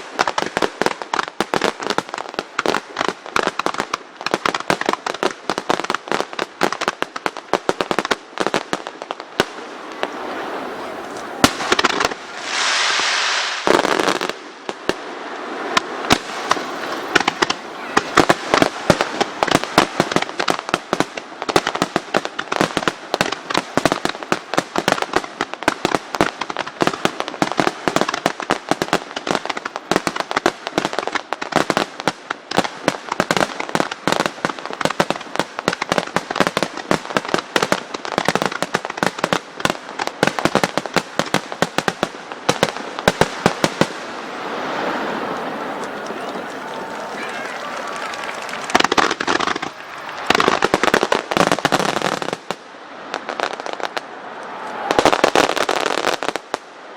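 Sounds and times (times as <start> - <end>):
fireworks bangs and crackles: 0.0 - 54.2, 54.8 - 56.9.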